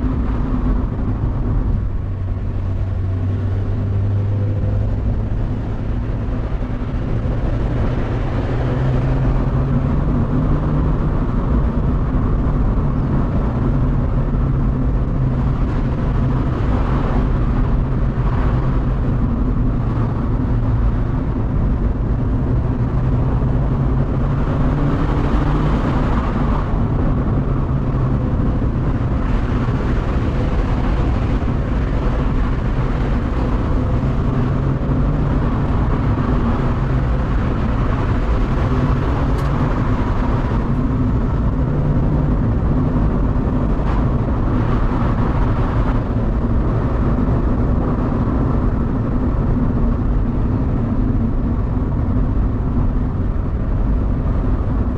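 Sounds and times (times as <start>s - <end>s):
car engine running: 0.0s - 54.9s
tyre and road noise: 0.0s - 54.9s.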